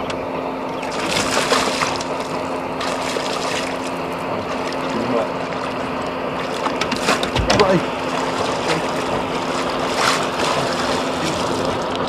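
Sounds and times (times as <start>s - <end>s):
steady low hum: 0.0s - 12.0s
water splashing beside boat: 0.0s - 12.0s.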